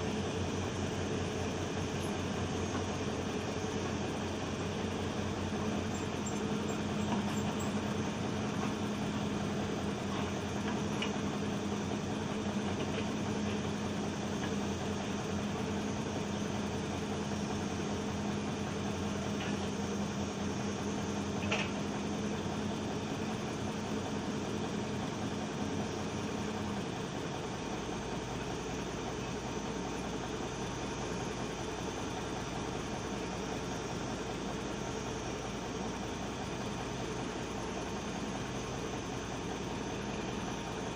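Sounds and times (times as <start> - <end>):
heavy machine engine droning: 0.0 - 40.9.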